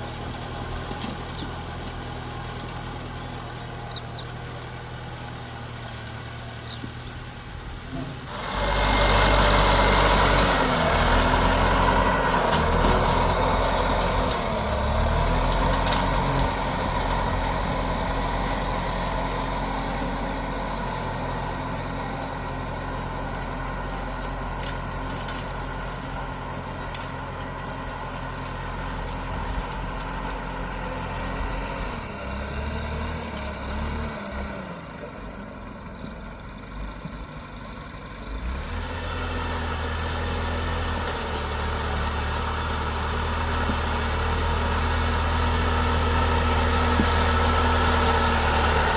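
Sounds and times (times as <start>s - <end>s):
engine running under load: 0.0s - 48.9s.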